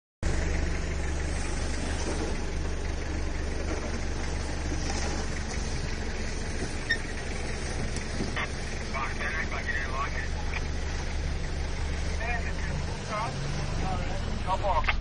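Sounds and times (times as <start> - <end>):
engine running at low revs: 0.2 - 15.0.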